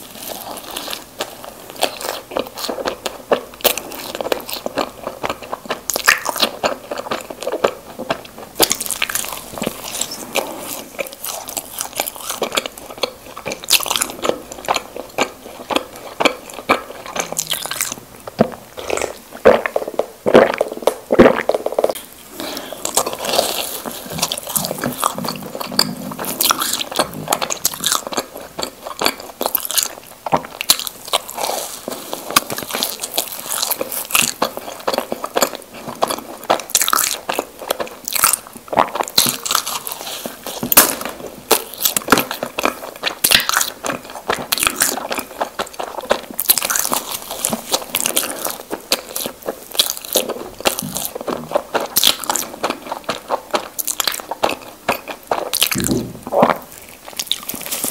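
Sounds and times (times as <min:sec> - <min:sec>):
close-miked eating and chewing: 0:00.0 - 0:57.9.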